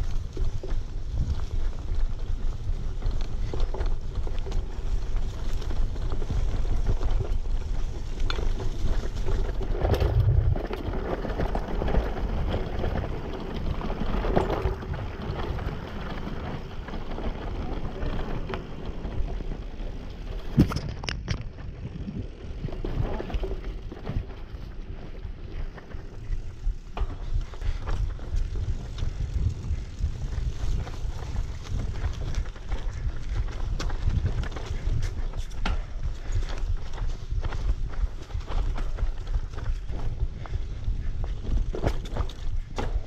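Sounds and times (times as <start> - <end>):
bicycle tyres crunching leaves: 0.0 - 43.0
bike clicking and rattling: 0.0 - 43.0
wind rumbling on microphone: 0.0 - 43.0.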